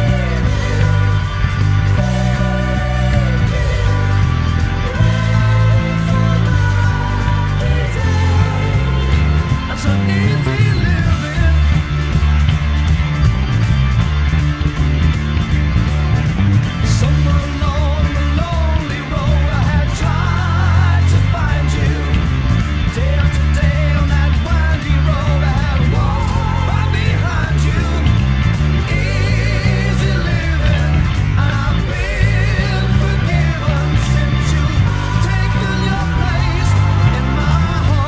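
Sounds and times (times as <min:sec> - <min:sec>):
hard rock song with male singer: 0:00.0 - 0:12.6, 0:16.7 - 0:38.0
electric bass playing along: 0:00.0 - 0:38.0.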